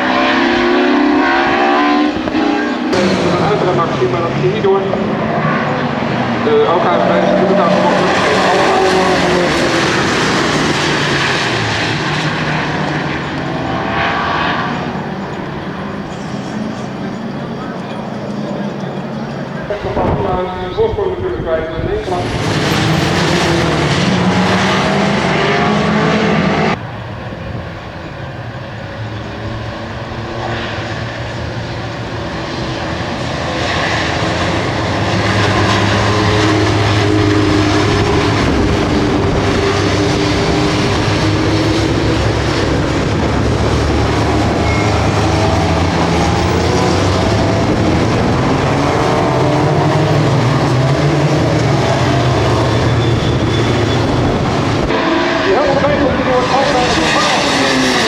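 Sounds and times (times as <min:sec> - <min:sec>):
race car engines running hard: 0:00.0 - 0:58.0.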